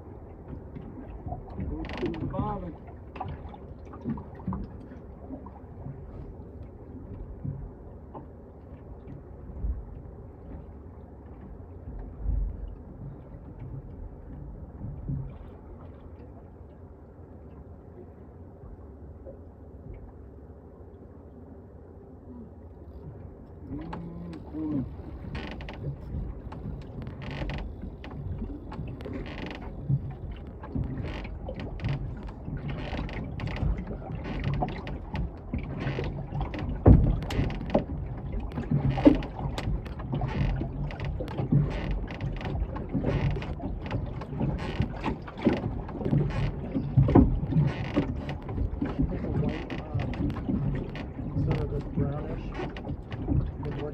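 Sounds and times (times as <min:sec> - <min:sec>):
boat knocks clicks and creaks: 0:00.0 - 0:16.4, 0:23.0 - 0:53.9.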